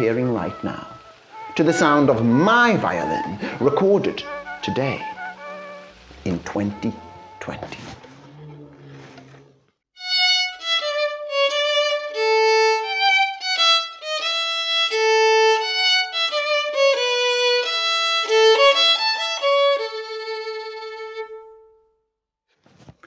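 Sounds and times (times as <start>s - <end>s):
solo violin melody: 0.0s - 7.8s, 10.0s - 21.8s.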